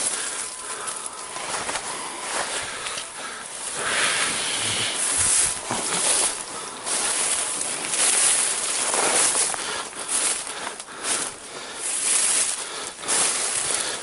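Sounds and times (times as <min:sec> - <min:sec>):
dry grass rustling against clothing: 0:00.0 - 0:14.0.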